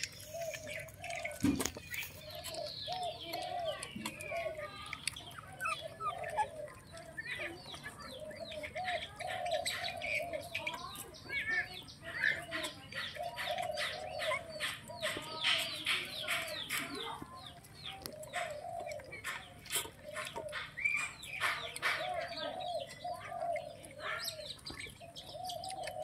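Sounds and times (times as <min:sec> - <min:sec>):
puppies squeaking: 0:00.0 - 0:26.0
puppies whining: 0:00.0 - 0:26.0.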